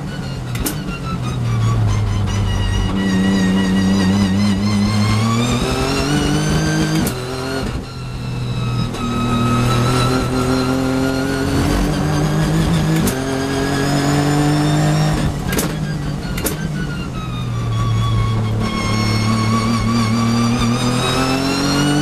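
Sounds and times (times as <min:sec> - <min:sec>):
gear upshift: 0:00.0 - 0:22.0
race car engine accelerating: 0:00.0 - 0:22.0.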